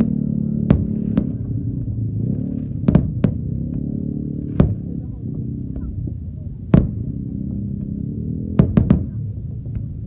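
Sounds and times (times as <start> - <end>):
fireworks bangs: 0.0 - 10.0
steady low rumble: 0.0 - 10.0.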